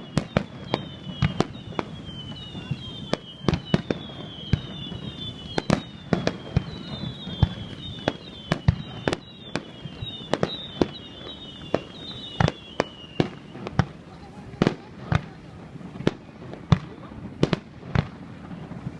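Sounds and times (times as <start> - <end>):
falling firework whistle: 0.0 - 18.9
fireworks bangs: 0.0 - 18.9.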